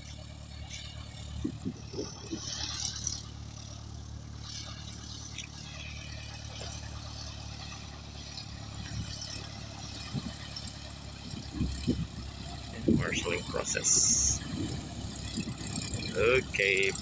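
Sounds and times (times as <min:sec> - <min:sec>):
small plane engine idling: 0:00.0 - 0:17.0.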